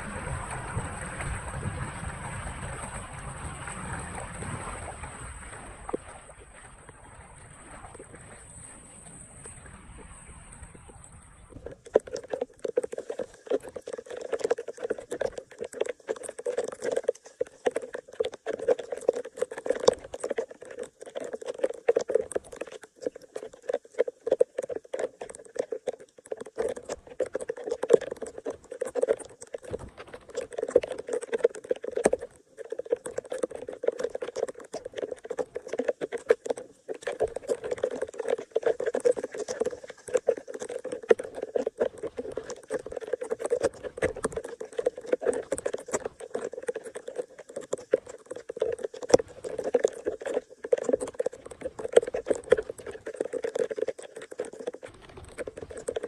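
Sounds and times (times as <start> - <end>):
rain on standing water: 0.0 - 56.0.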